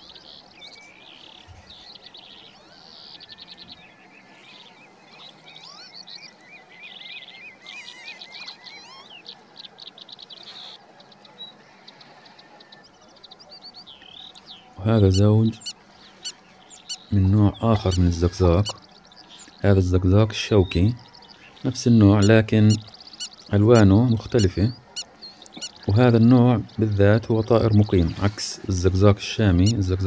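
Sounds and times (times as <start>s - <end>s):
birds chirping and trilling: 0.0s - 30.0s.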